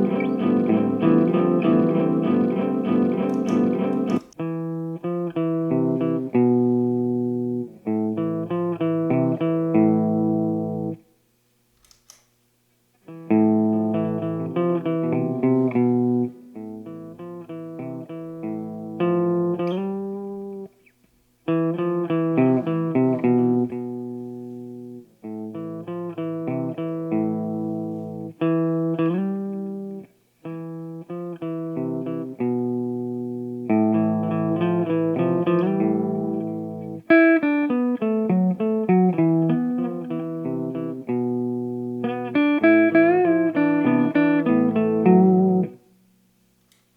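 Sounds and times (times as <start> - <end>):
clean electric guitar chords: 0.0 - 11.0, 13.1 - 20.7, 21.5 - 45.9.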